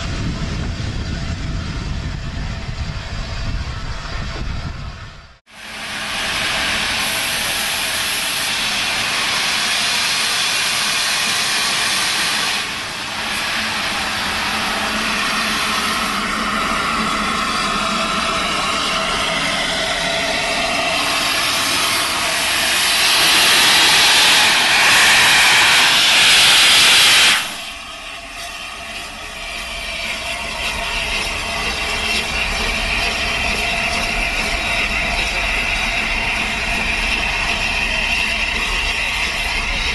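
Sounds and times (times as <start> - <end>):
steam hissing from locomotive: 5.5 - 39.9.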